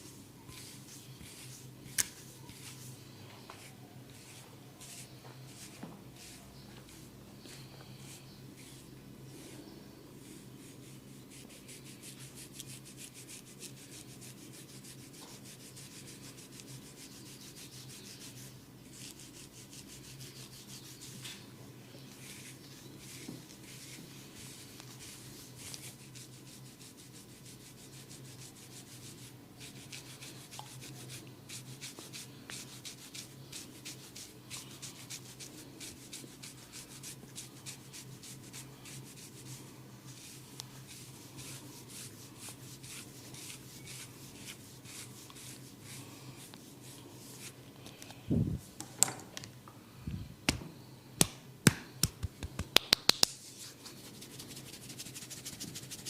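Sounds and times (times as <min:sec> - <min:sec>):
hair and scalp being scratched: 0:03.5 - 0:09.6, 0:10.3 - 0:21.3, 0:22.2 - 0:47.6, 0:52.5 - 0:56.0.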